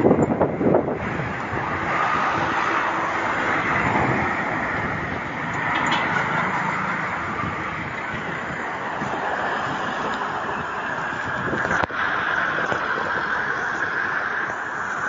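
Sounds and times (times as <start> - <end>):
passing road traffic: 0.0 - 15.0
wind rushing: 0.0 - 15.0.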